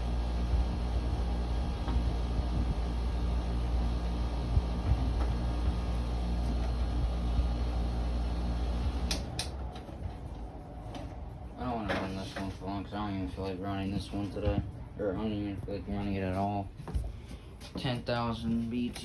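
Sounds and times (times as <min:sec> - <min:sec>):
air conditioner running: 0:00.0 - 0:19.0.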